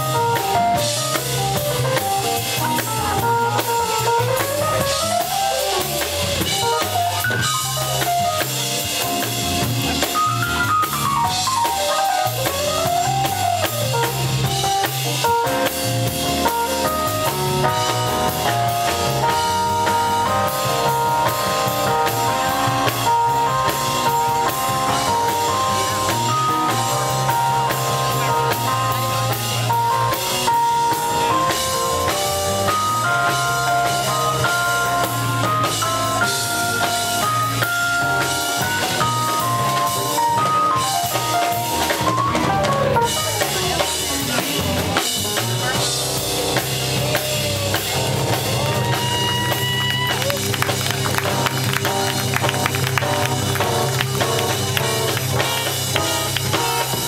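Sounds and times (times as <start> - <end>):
drum kit beat: 0.0 - 57.0
electric bass: 0.0 - 57.0
keyboards: 0.0 - 57.0.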